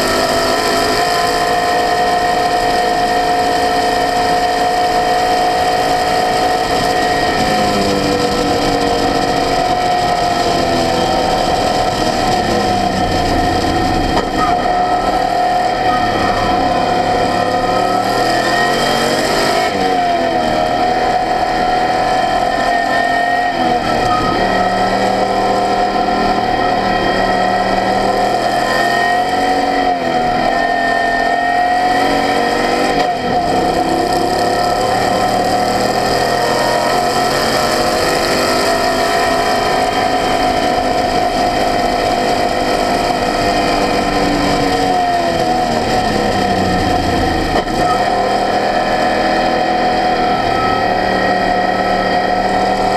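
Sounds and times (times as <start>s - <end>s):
race car engine at speed: 0.0s - 52.9s.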